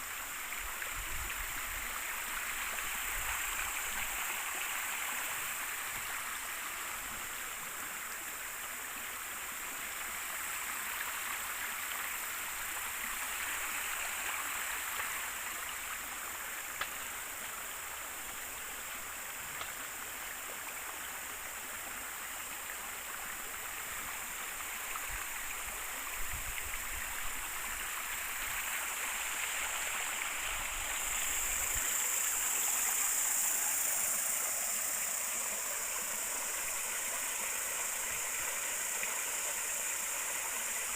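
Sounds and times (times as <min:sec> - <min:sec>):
river water babbling: 0:00.0 - 0:40.9.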